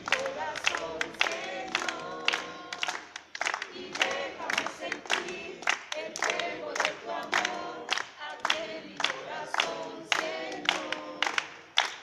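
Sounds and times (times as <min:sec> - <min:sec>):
group singing: 0:00.0 - 0:12.0
hands clapping in time: 0:00.0 - 0:12.0.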